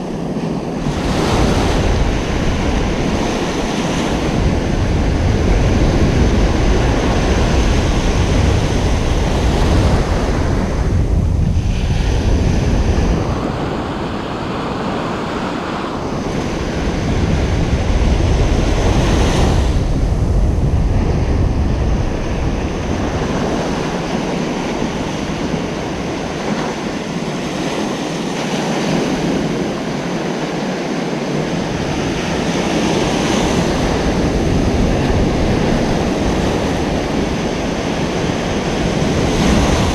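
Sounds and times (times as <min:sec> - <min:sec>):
ocean waves breaking on beach: 0:00.0 - 0:39.9
wind buffeting microphone: 0:00.0 - 0:39.9.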